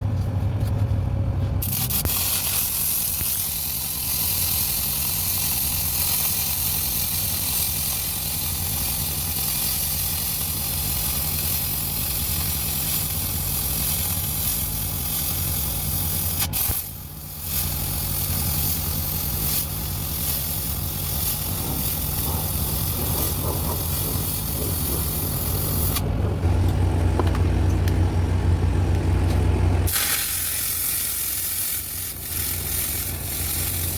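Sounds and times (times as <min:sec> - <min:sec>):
engine drone: 0:00.0 - 0:33.9
welding arc hissing and crackling: 0:01.6 - 0:28.1, 0:29.0 - 0:33.9.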